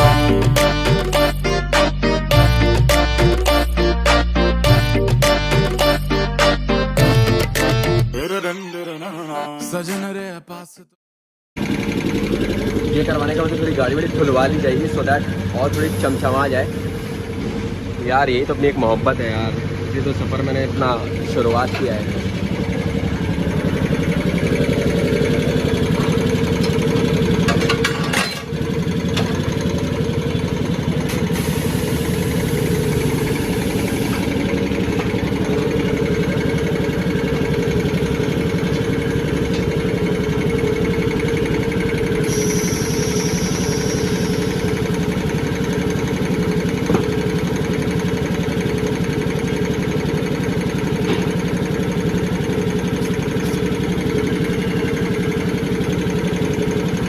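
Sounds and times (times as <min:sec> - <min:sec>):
engine idling: 0:00.0 - 0:01.5, 0:11.6 - 0:57.0.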